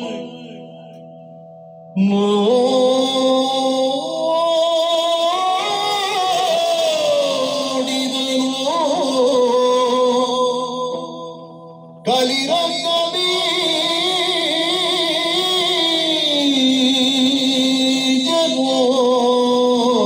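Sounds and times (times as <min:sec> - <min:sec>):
man singing high notes: 0:01.9 - 0:11.5, 0:12.1 - 0:20.0.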